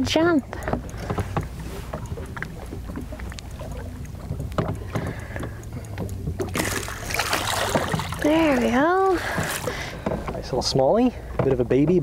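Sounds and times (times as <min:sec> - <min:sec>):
light knocks and ticks: 0:00.0 - 0:07.0, 0:07.6 - 0:12.0
water against boat hull: 0:00.0 - 0:12.0.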